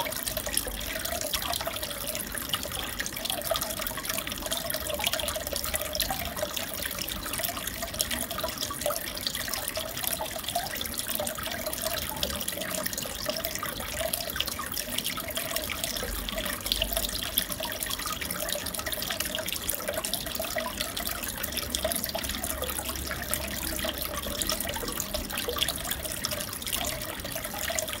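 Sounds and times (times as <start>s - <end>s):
aquarium water trickling and bubbling: 0.0s - 28.0s.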